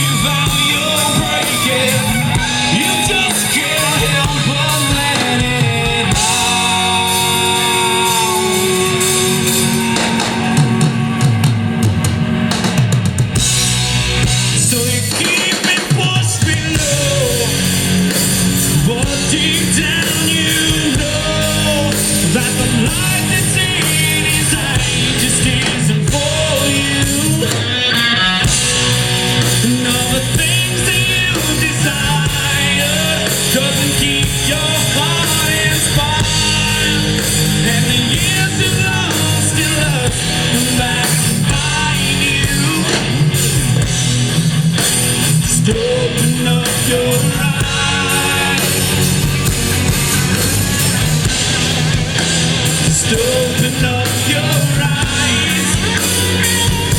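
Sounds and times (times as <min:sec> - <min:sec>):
person singing: 0:00.0 - 0:11.5, 0:14.5 - 0:43.9, 0:45.2 - 0:50.3, 0:52.6 - 0:56.9
guitar: 0:00.0 - 0:56.9
rock band playing live: 0:00.0 - 0:56.9.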